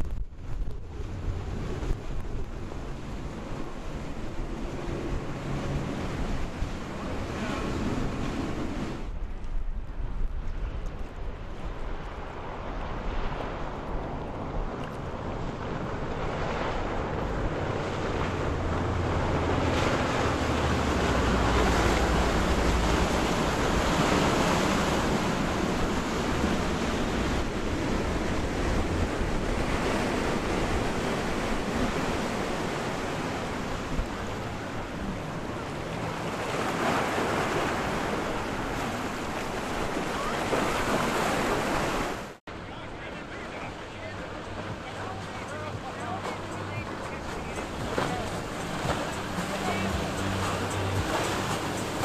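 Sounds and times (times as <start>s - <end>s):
wind buffeting microphone: 0.0s - 42.3s, 43.1s - 52.0s
boat wake rushing: 0.0s - 52.0s
water rushing from waves: 0.0s - 52.0s.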